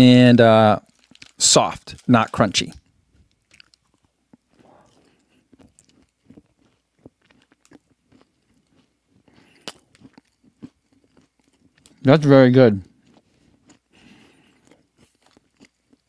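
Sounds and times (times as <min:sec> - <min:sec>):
faint chewing: 0:00.8 - 0:12.0, 0:12.8 - 0:16.0.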